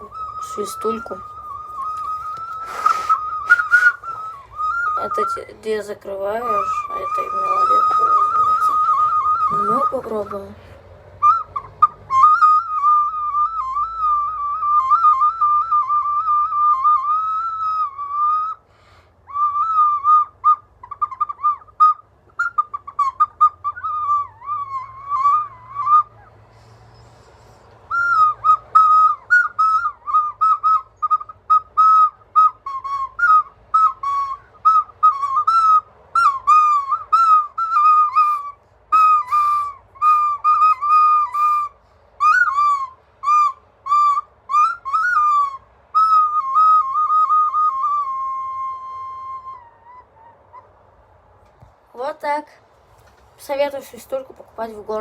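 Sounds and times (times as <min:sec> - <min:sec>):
whistle trilling: 0:00.0 - 0:51.0.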